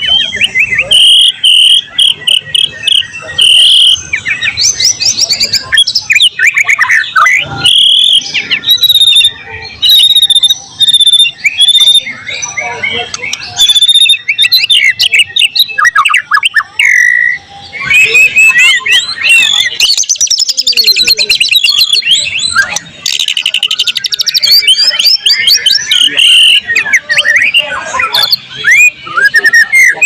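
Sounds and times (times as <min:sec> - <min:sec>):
bird singing whistles and trills: 0:00.0 - 0:30.0.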